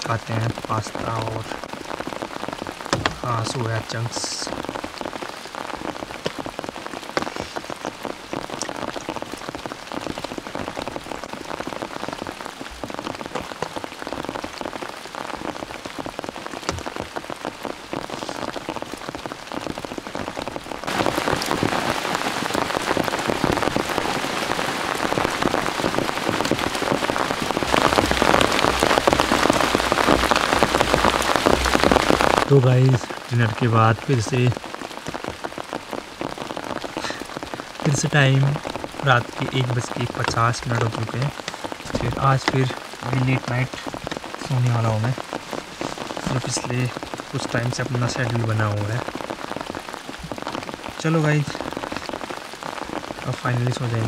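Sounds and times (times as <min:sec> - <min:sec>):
heavy rain on a tent: 0:00.0 - 0:54.0.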